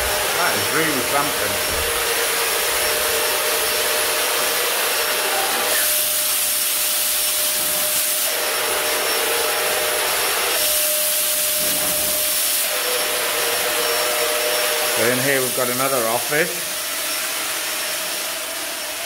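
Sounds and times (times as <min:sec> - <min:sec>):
rushing air from fogger: 0:00.0 - 0:18.3.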